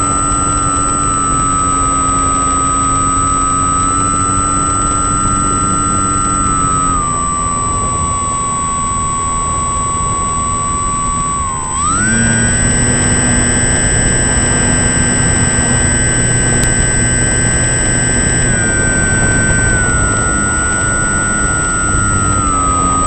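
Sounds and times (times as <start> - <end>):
engine running: 0.0 - 23.0
high whine: 0.0 - 23.0.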